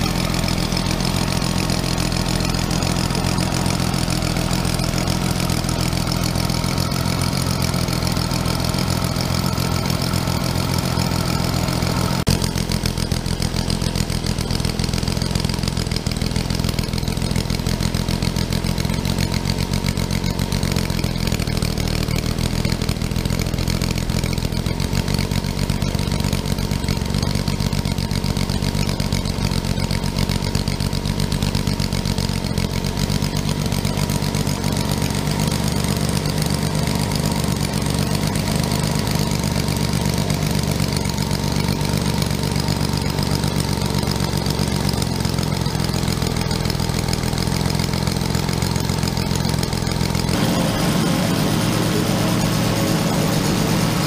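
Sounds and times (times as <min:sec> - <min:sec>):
model engine running: 0:00.0 - 0:54.0.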